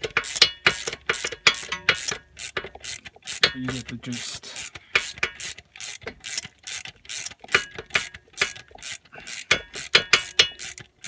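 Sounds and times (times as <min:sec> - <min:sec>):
ratchet wrench clicking: 0:00.0 - 0:11.0.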